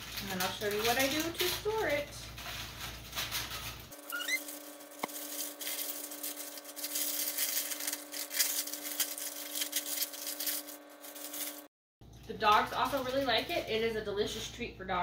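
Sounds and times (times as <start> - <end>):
parchment paper crinkling: 0.0 - 11.7, 12.3 - 14.4.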